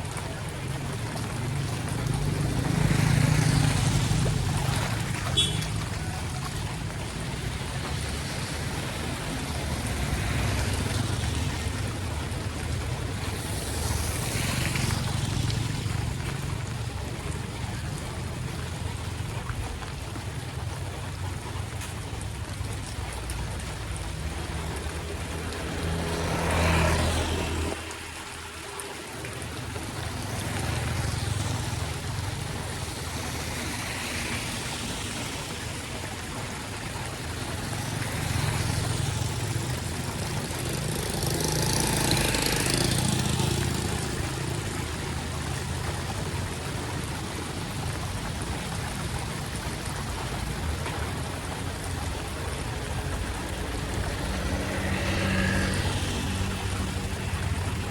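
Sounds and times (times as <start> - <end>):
rain: 0.0 - 57.9
running floodwater: 0.0 - 57.9.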